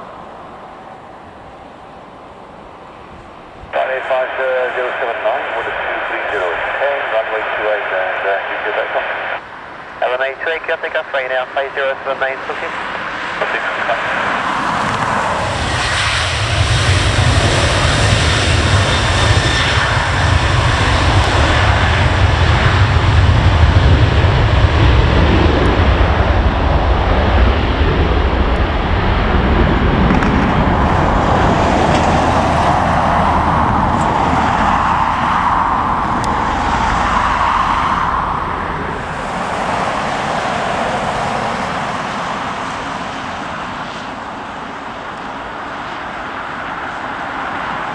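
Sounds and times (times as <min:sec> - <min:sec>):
jet engines deep rumble: 0:00.0 - 0:47.9.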